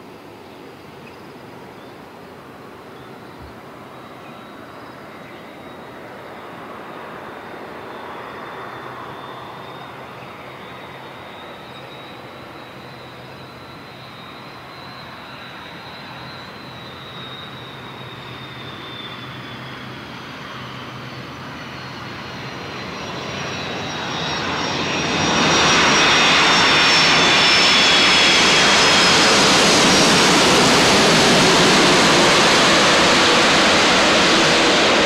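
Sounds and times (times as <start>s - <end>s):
jet engines on approach: 0.0s - 35.0s.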